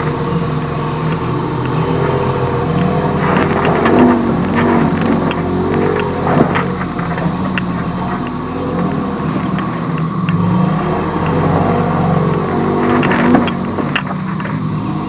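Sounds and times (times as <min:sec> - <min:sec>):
knocks and rattles: 0:00.0 - 0:14.8
off-road vehicle engine: 0:00.0 - 0:15.0.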